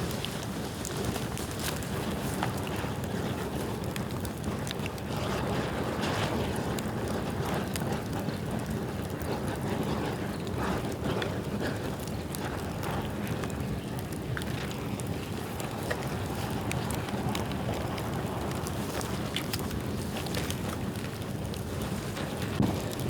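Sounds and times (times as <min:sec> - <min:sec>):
bonfire flames rushing: 0:00.0 - 0:23.0
fire crackling and popping: 0:00.0 - 0:23.0.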